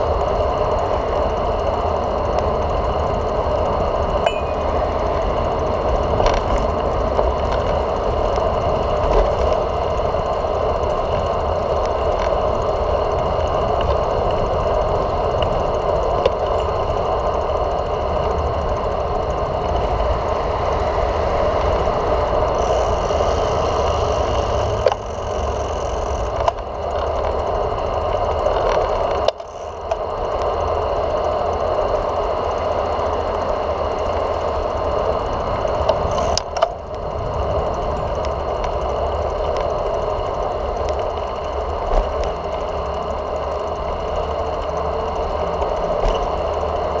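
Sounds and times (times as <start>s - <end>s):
bicycle hum and rattle: 0.0s - 47.0s
low road rumble: 0.0s - 47.0s.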